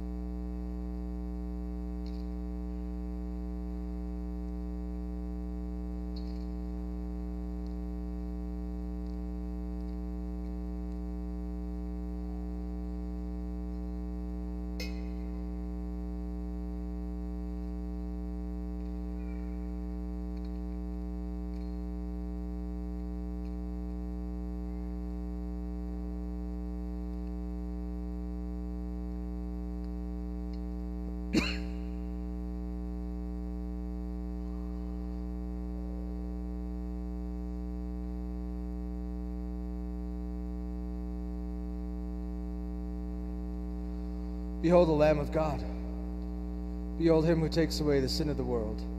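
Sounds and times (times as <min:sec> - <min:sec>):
electrical mains hum: 0:00.0 - 0:48.9.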